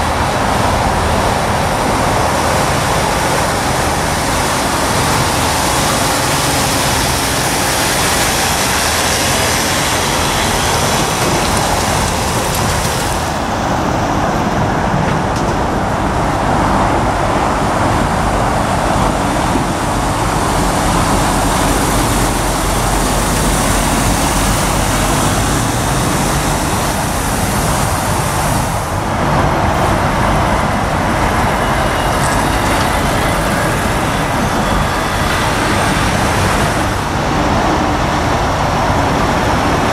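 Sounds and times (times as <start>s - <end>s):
lorry diesel engines running: 0.0s - 39.9s
road noise hiss: 0.0s - 39.9s.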